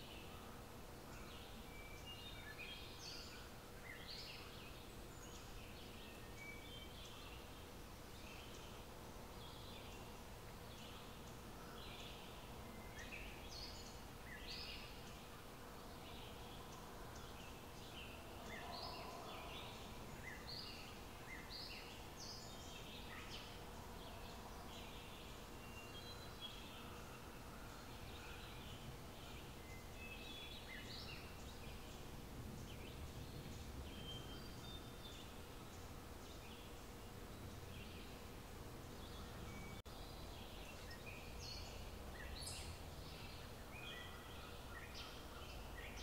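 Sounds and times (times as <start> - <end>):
faint hum: 0.0 - 46.0.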